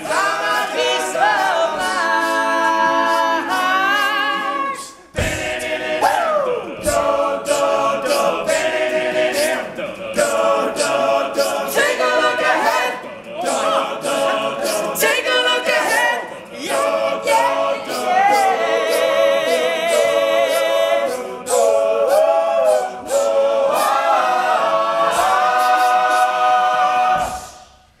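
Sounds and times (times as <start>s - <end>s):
lead voice singing with vibrato: 0.0s - 27.9s
male a cappella group singing: 0.0s - 27.9s.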